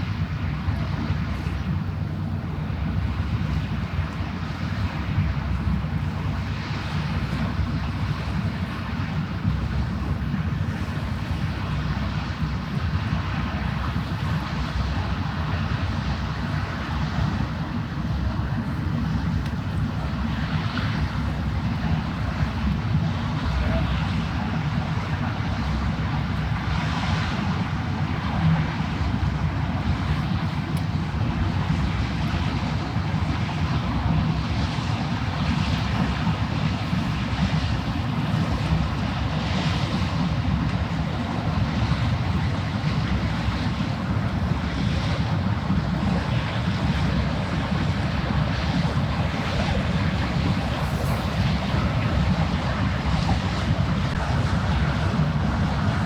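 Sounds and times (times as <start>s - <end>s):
ship engine rumbling: 0.0s - 56.0s
wind: 0.0s - 56.0s.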